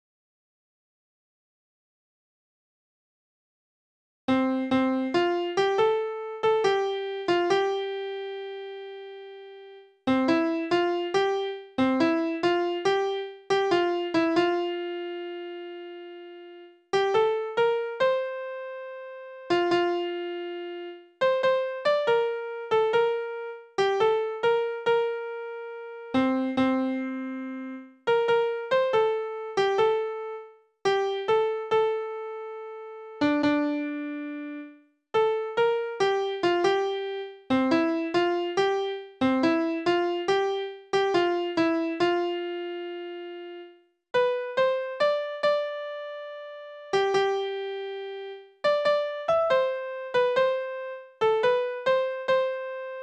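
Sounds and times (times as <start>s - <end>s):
synthesized piano notes: 4.3s - 53.0s.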